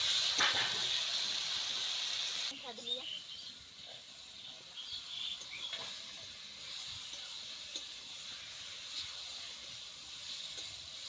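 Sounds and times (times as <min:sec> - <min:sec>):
curry sizzling: 0:00.0 - 0:11.0.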